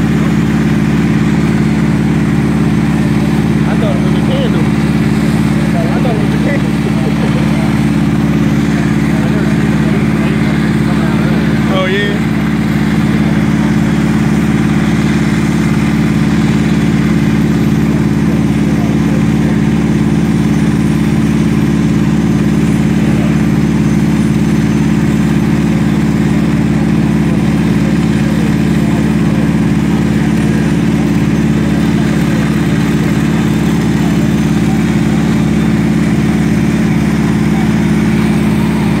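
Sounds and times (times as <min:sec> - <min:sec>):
fire truck engine running: 0:00.0 - 0:39.0.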